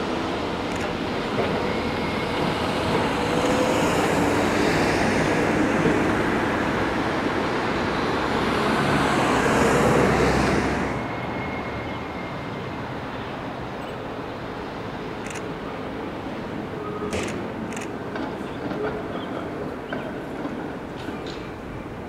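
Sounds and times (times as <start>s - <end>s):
passing vehicles roaring: 0.0s - 18.3s.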